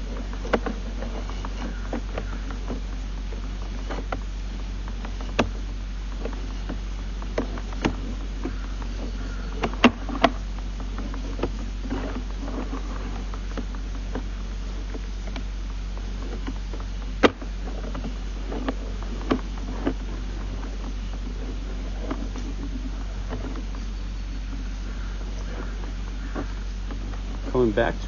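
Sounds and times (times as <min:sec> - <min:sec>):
cable clicks and knocks: 0:00.0 - 0:23.8
steady low hum: 0:00.0 - 0:28.0.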